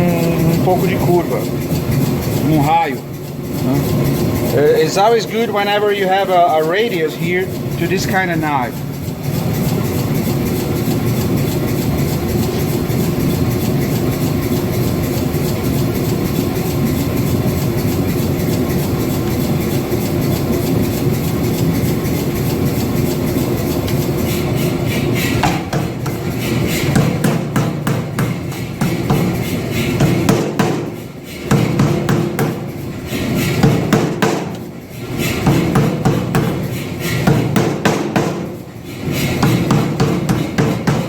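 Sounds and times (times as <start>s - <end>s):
power hammer pounding hot steel: 0.0s - 41.0s.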